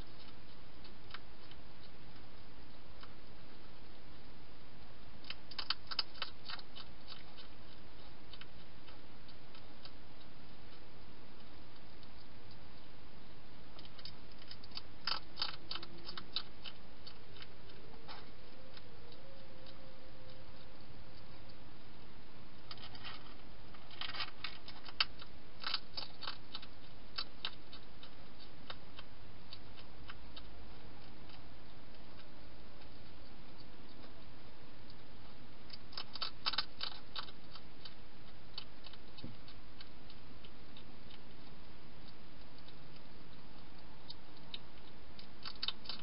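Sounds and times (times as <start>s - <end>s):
steady background hiss: 0.0s - 46.0s
hedgehog crunching dry food: 5.2s - 46.0s.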